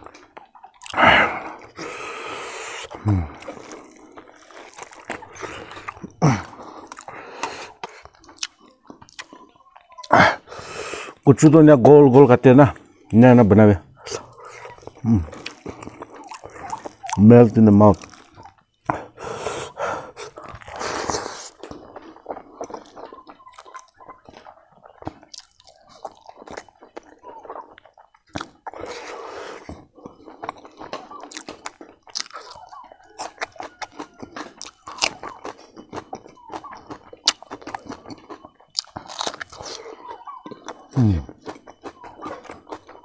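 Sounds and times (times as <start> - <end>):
wet chewing smacks and clicks: 0.0 - 11.2, 14.0 - 43.0.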